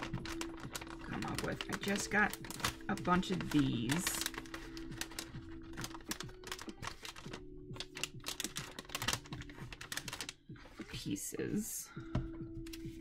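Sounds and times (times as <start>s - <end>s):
paper pieces rustling: 0.0s - 10.9s
plastic bag crinkling: 0.0s - 10.9s
soft background music: 0.0s - 13.0s.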